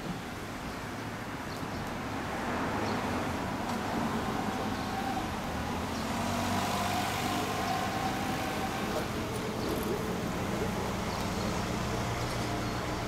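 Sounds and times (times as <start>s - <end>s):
vehicle engine and traffic hum: 0.0s - 13.0s.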